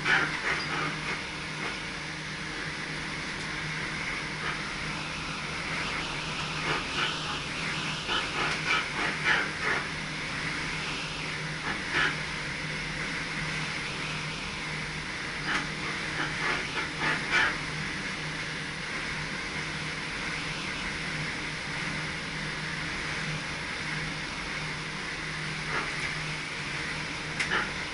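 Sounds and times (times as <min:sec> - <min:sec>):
train running hum and rumble: 0:00.0 - 0:27.9.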